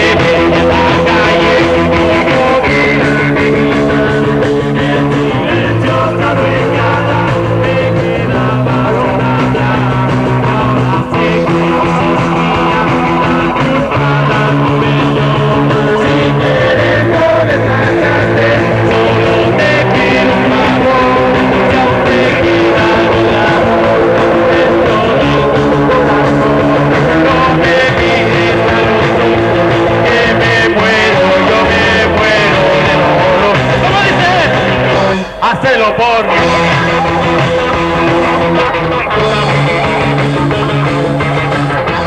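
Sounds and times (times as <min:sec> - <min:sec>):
live punk rock band playing: 0:00.0 - 0:42.0.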